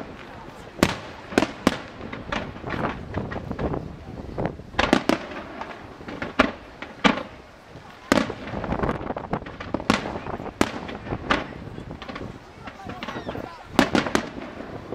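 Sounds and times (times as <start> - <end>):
fireworks bangs: 0.0 - 14.9
fireworks crackling pops: 0.0 - 14.9.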